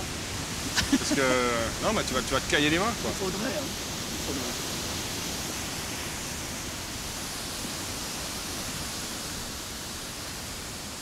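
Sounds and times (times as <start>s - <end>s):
mountain stream rapids rushing: 0.0s - 11.0s.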